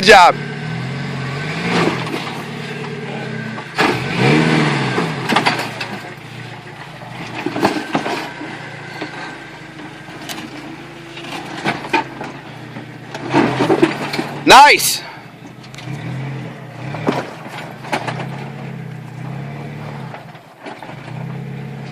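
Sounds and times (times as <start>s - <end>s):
engine running and revving: 0.0s - 21.9s
knocks and clunks: 1.6s - 14.5s, 15.4s - 21.9s.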